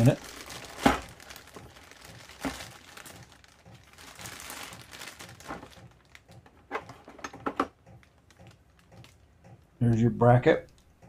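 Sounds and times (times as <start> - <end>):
packaging rustling: 0.0 - 9.4.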